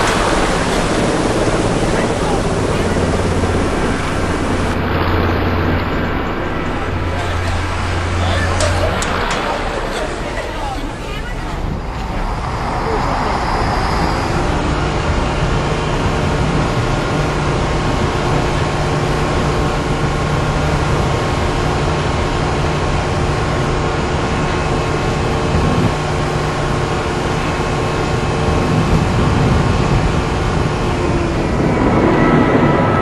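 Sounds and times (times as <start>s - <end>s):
boat lift mechanical hum: 0.0s - 32.7s.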